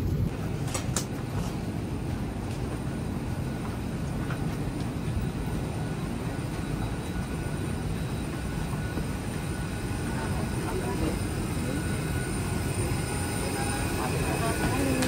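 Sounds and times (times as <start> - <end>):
airliner low rumble and hum: 0.0 - 15.0.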